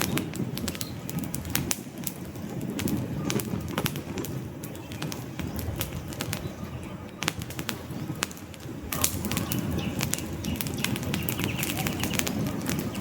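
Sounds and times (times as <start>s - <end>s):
campfire crackling and popping: 0.0s - 13.0s
low rumble of flames: 0.0s - 13.0s.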